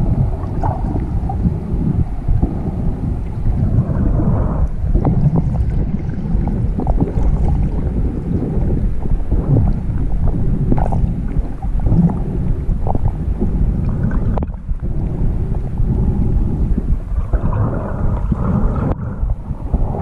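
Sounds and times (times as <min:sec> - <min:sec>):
muffled underwater water sloshing: 0:00.0 - 0:20.0.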